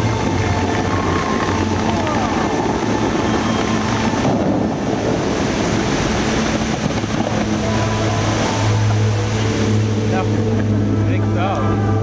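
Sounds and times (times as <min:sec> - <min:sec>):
fountain water jets splashing: 0:00.0 - 0:12.0
low hum: 0:00.0 - 0:12.0.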